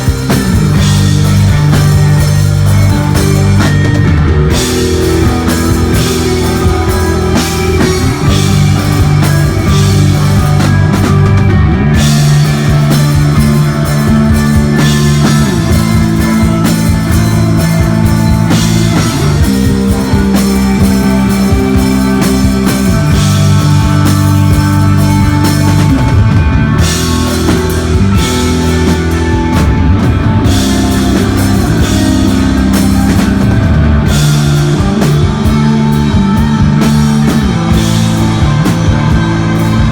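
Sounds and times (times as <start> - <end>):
bass guitar notes: 0.0 - 39.9
drum kit: 0.0 - 39.9
electric guitar: 0.0 - 39.9.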